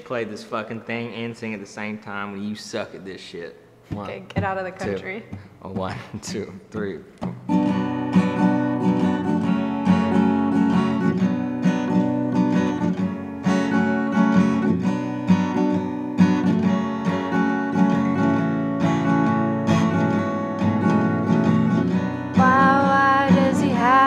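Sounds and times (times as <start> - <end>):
acoustic guitar strumming chords: 4.4 - 24.0.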